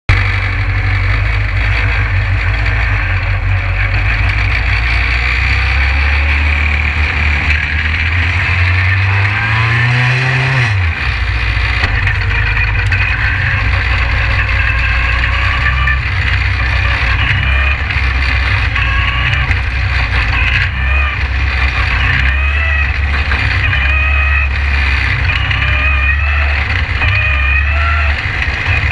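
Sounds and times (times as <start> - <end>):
race car engine running hard: 0.1 - 28.9.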